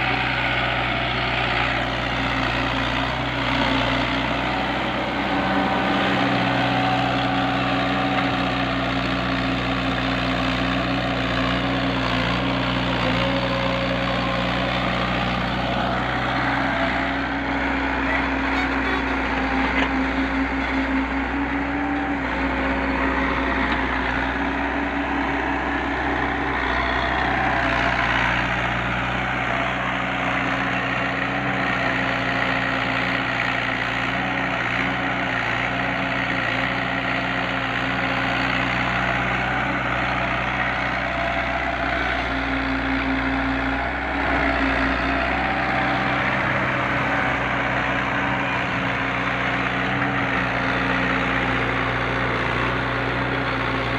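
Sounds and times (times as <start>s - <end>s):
diesel excavator engine running: 0.0s - 53.9s.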